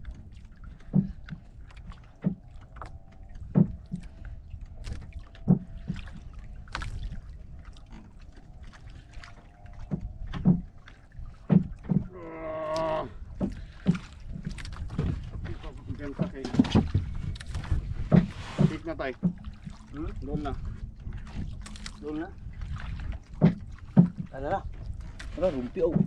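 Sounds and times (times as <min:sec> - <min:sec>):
sea noise wash: 0:00.0 - 0:26.0
water slapping against boat hull: 0:00.0 - 0:26.0.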